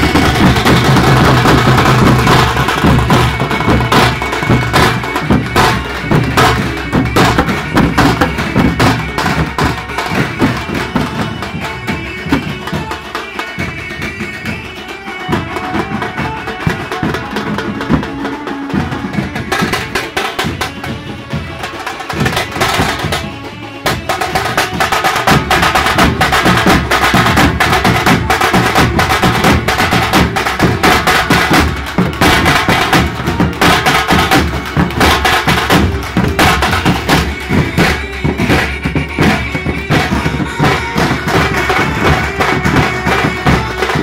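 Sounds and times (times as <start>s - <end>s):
drum band playing: 0.0s - 44.0s.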